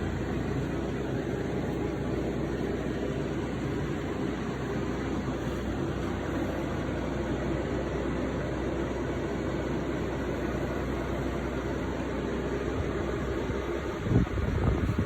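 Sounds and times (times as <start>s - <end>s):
fan running: 0.0s - 15.0s.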